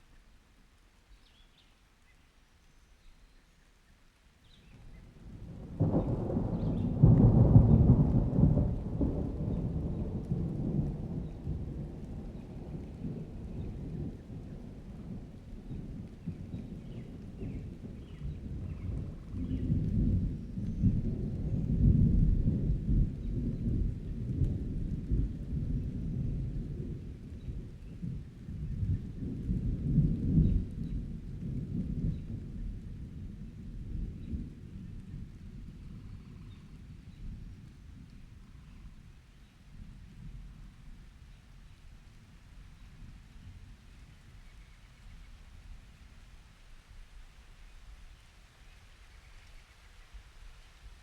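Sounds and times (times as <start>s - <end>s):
steady rain: 0.0s - 51.0s
thunder rumble: 4.9s - 46.4s.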